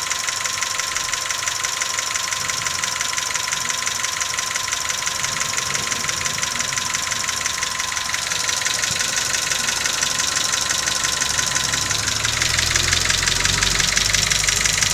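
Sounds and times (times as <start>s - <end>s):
deep engine rumble: 0.0s - 14.9s
engine ticking clatter: 0.0s - 14.9s
steady whine: 0.0s - 14.9s.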